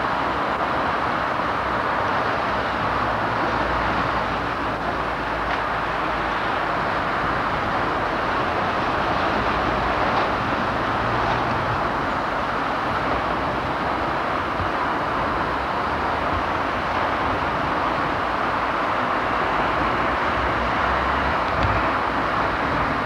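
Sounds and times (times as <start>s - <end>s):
electric tram rolling: 0.0s - 23.0s.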